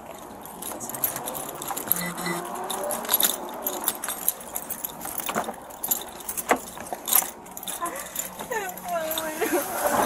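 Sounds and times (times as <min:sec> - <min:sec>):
keys and metal gear jingling: 0:00.0 - 0:10.0.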